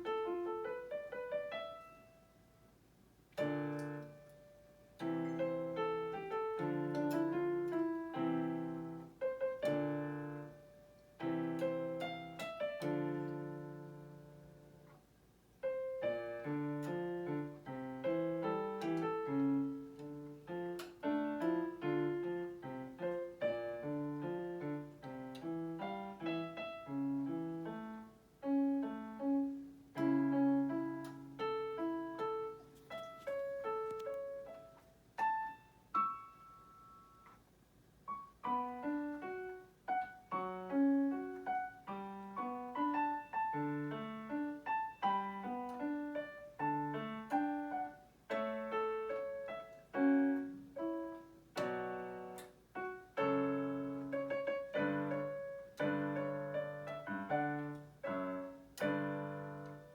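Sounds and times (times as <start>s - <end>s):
solo piano playing: 0.0s - 59.9s.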